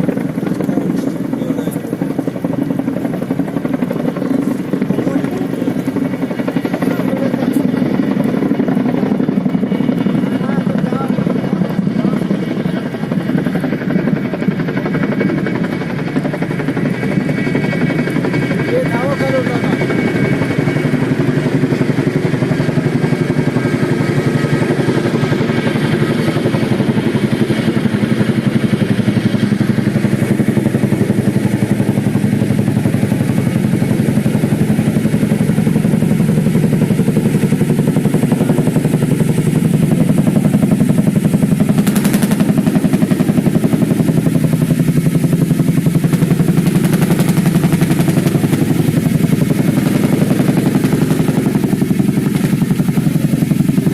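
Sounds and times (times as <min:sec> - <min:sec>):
helicopter rotors beating: 0:00.0 - 0:53.9.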